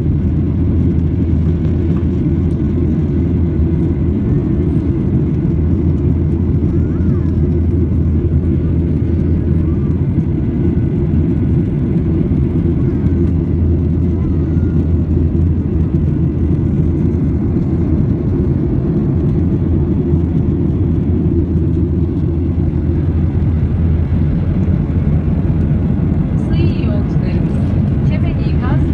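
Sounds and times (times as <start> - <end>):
jet engines rumbling in cabin: 0.0 - 28.9.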